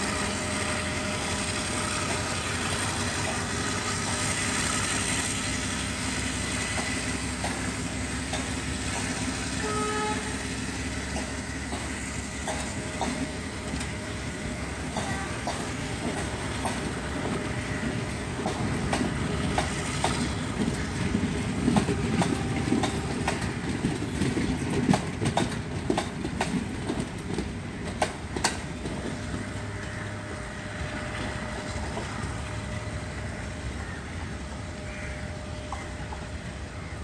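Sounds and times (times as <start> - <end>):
train coaches rumbling past: 0.0 - 37.0
wheels clicking on track: 0.0 - 37.0.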